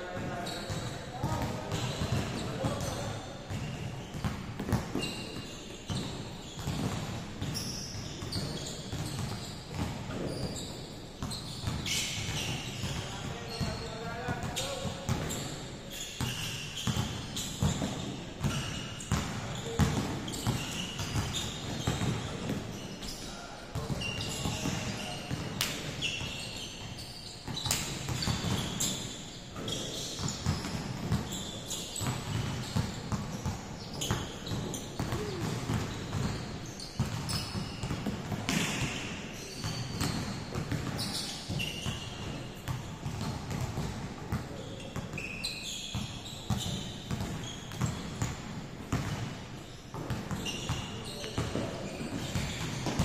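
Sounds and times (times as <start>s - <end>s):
basketballs bouncing in gym: 0.0s - 53.0s
sneakers squeaking on floor: 0.0s - 53.0s.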